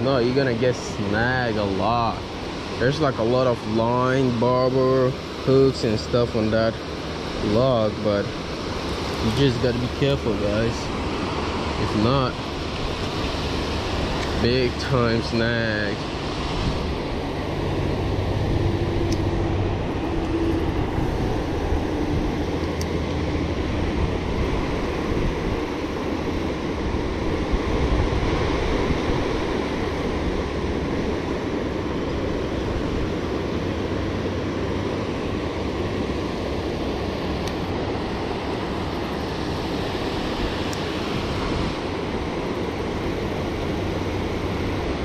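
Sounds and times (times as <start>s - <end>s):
river water pouring over dam: 0.0s - 45.0s.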